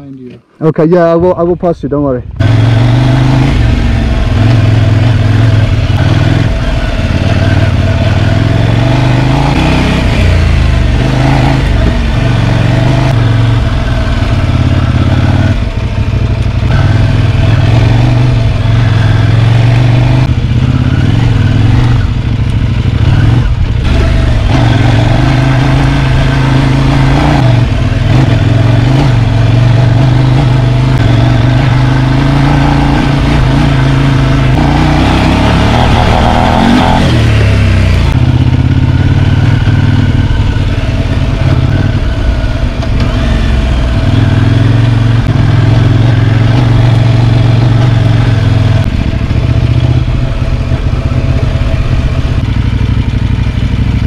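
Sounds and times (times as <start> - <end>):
motorcycle engine revving: 2.2 - 54.0.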